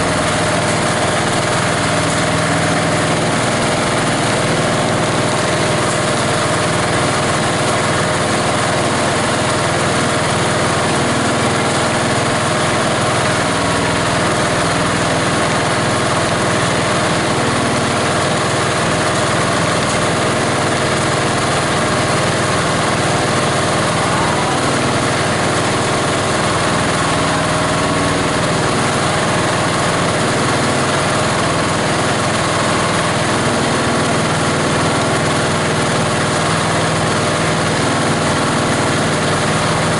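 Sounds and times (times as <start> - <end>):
diesel engine running grinder: 0.0 - 39.9.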